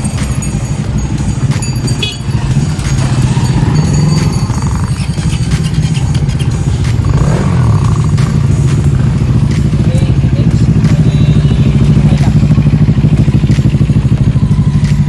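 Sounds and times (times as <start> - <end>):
engine running with pulsing drone: 0.0 - 15.0.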